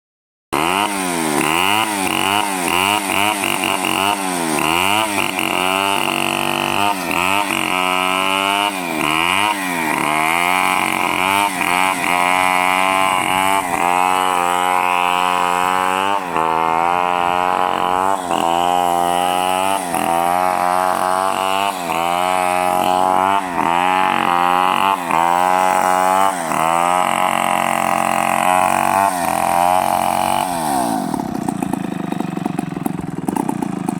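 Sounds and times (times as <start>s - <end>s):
chainsaw cutting wood: 0.6s - 33.9s.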